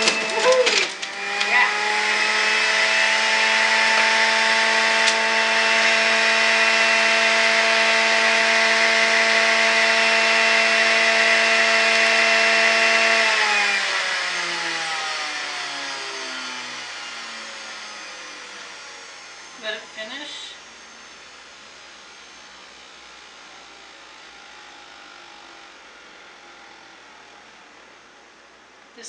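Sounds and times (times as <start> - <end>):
electric juicer motor running: 0.0 - 29.0.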